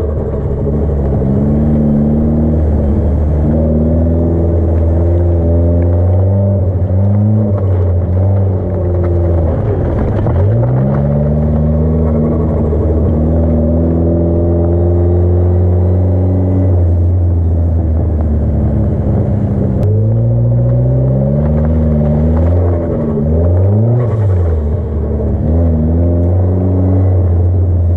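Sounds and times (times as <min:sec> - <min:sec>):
car engine at high revs: 0:00.0 - 0:27.9.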